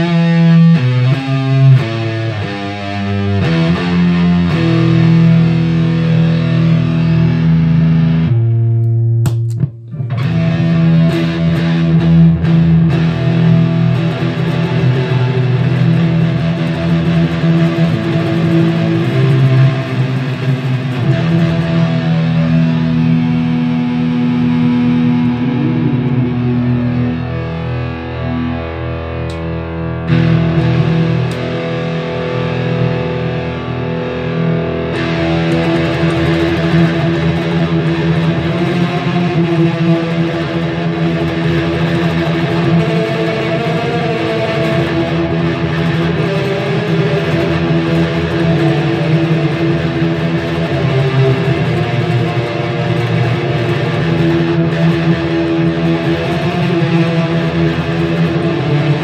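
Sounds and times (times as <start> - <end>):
fuzzy electric guitar notes: 0.0 - 59.0.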